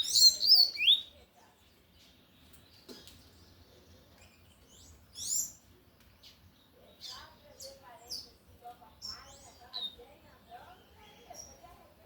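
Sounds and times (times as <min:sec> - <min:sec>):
bird chirping song: 0:00.0 - 0:12.0.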